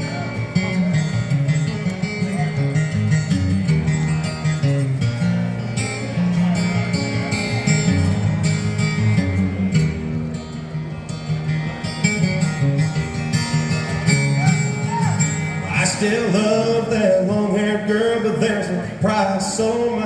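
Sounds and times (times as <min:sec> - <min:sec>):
acoustic guitar strumming: 0:00.0 - 0:20.0
country band playing: 0:00.0 - 0:20.0.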